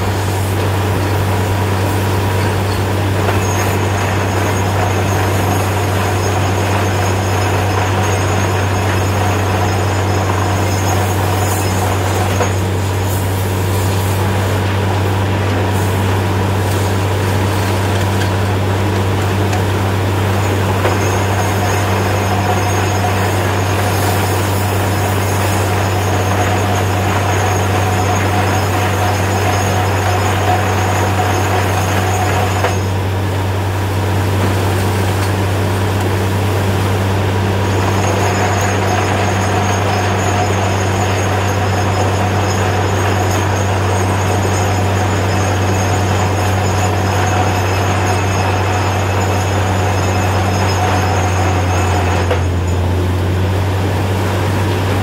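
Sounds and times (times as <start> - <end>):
drilling rig engine drone: 0.0 - 55.0.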